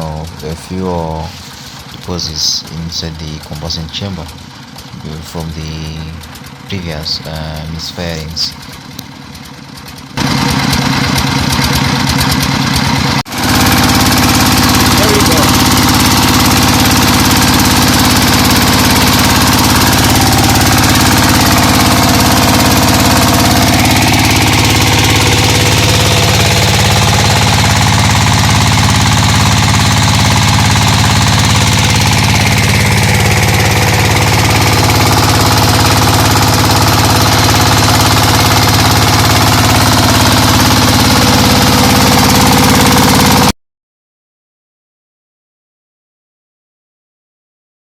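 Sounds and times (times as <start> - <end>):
diesel engine knocking: 0.0 - 43.5.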